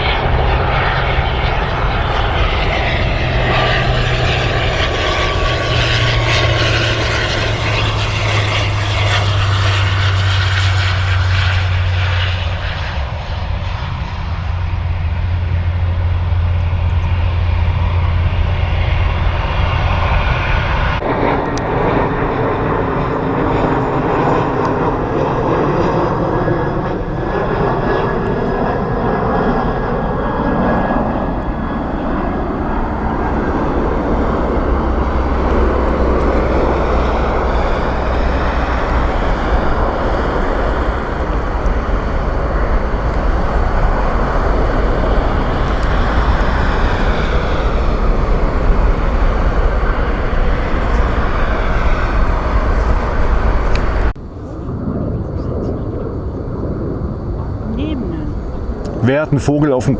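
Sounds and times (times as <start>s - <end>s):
jet airliner passing by: 0.0s - 59.9s.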